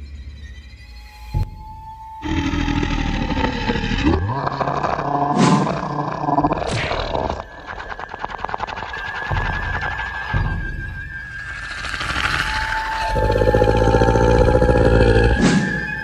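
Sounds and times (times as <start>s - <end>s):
ghost growling and roaring: 2.2s - 10.8s, 11.4s - 16.0s.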